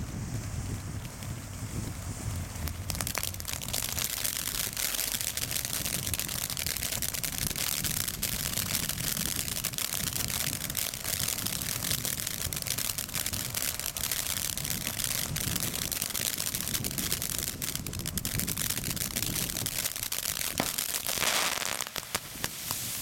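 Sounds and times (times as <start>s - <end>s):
firework fountain crackling: 0.0s - 23.0s
firework fountain hissing: 0.0s - 23.0s.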